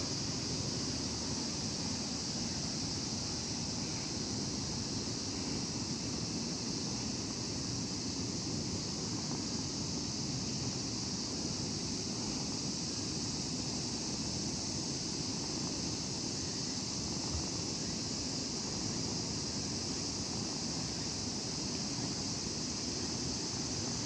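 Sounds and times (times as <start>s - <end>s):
outdoor hiss and low rumble: 0.0s - 24.0s.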